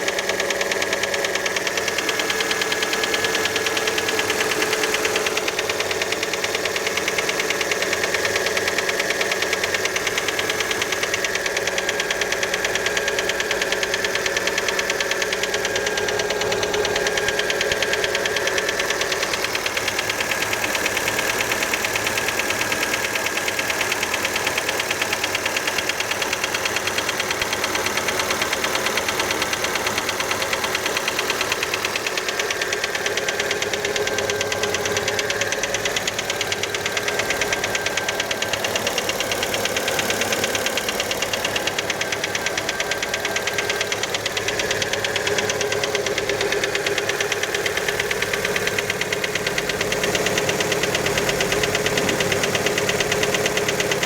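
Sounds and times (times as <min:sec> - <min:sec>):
car engine knocking: 0:00.0 - 0:54.0.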